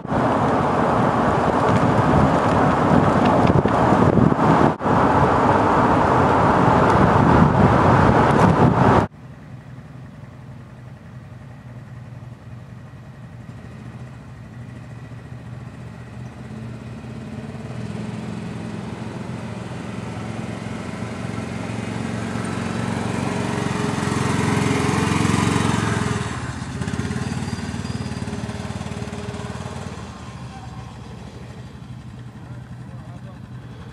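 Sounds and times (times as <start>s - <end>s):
wind and road noise: 0.0s - 33.9s
atv engine running: 6.0s - 33.9s.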